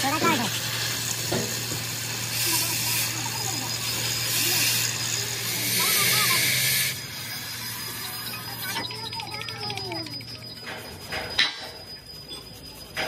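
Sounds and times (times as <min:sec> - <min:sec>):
welding arc sizzling: 0:00.0 - 0:13.0.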